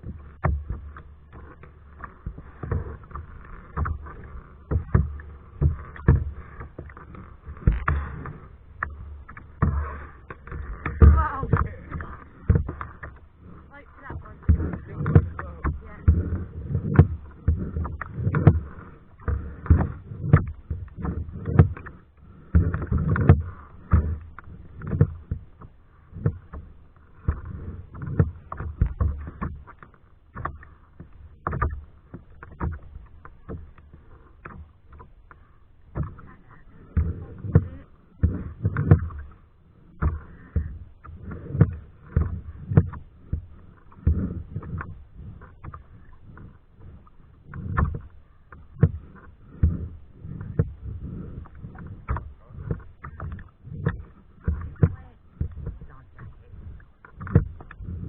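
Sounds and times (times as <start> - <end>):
paddle splashing in water: 0.0 - 58.0.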